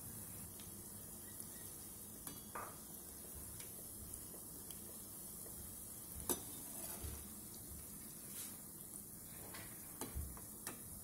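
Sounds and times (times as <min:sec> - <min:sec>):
faint sizzle of frying in oil: 0:00.0 - 0:11.0.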